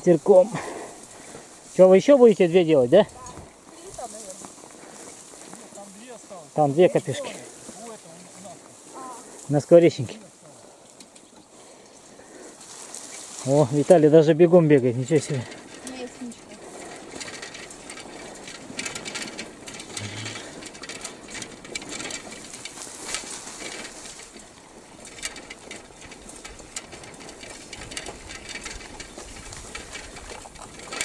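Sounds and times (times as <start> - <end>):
running footsteps through grass: 0.0 - 31.0.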